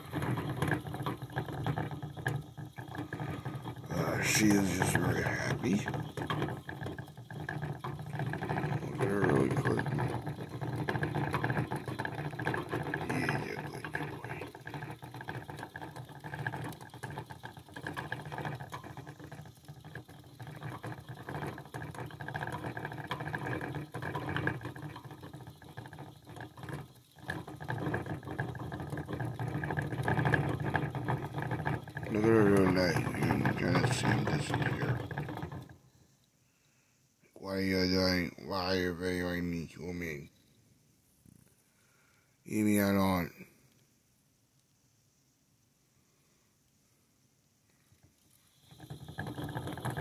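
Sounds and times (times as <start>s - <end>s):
hamster wheel rattling: 0.0s - 36.0s, 37.4s - 40.6s, 42.5s - 43.6s, 47.8s - 50.0s.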